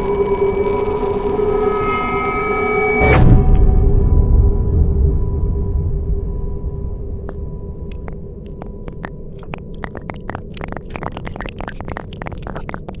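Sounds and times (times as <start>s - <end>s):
low rumbling drone: 0.0s - 10.8s.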